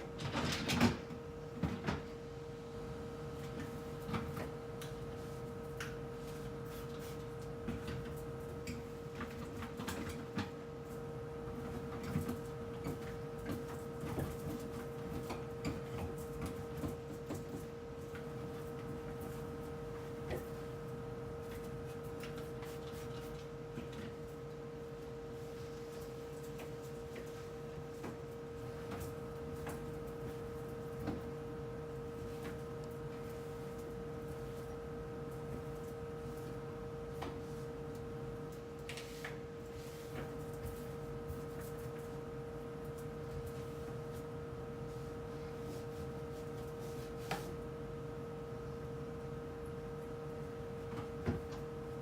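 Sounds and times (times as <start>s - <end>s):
steady electrical hum: 0.0s - 52.0s.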